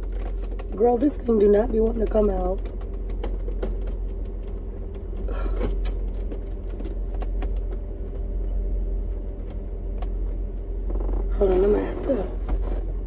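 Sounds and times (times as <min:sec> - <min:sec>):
engine idling inside cabin: 0:00.0 - 0:13.0.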